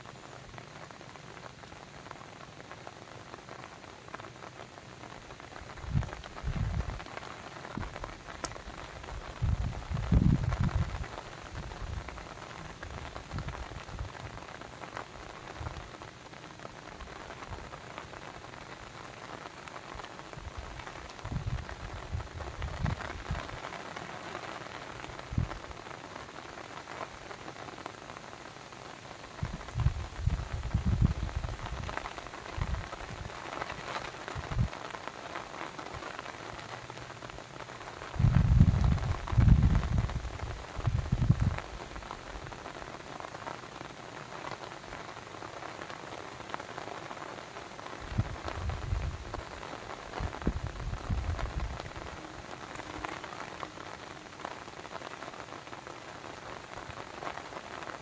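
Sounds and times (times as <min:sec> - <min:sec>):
hiss of running water: 0:00.0 - 0:58.0.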